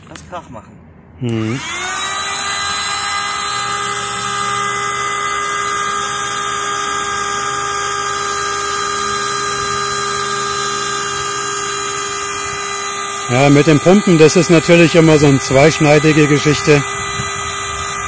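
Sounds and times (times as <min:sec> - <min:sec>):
electric air pump whining: 0:01.2 - 0:18.0.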